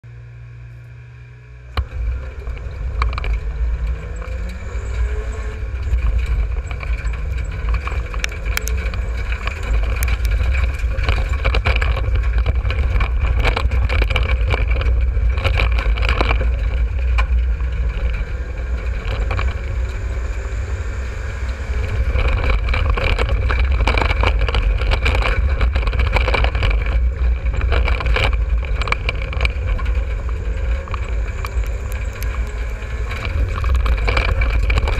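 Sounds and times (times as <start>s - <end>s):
race car engine revving: 0.0s - 34.9s
knocks and rattles: 1.7s - 34.9s.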